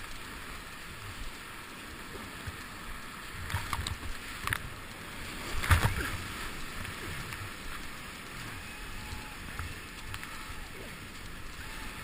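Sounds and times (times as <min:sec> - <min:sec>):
whitewater rushing: 0:00.0 - 0:12.0
waves splashing over boat: 0:02.2 - 0:12.0.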